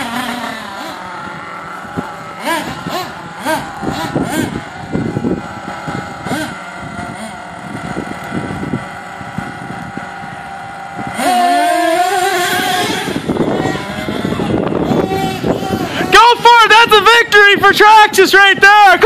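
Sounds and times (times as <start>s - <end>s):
small nitro engine revving: 0.0s - 17.8s.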